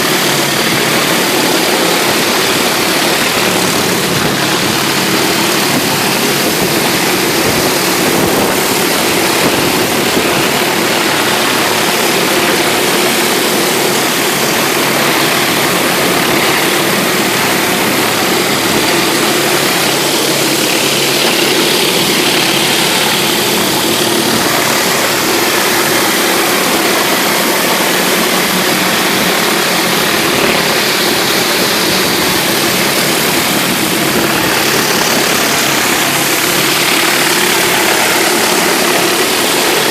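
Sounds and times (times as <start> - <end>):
pressure washer engine running: 0.0 - 39.9
water spraying onto concrete: 0.0 - 39.9.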